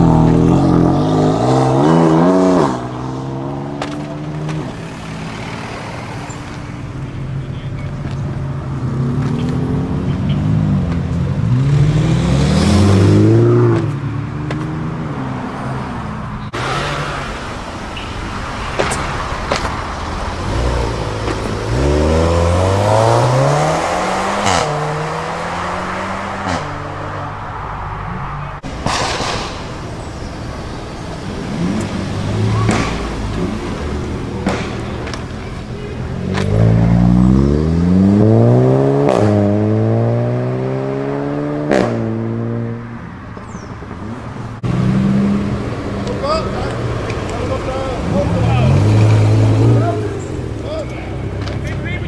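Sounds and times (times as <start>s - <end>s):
cars accelerating hard: 0.0s - 52.0s.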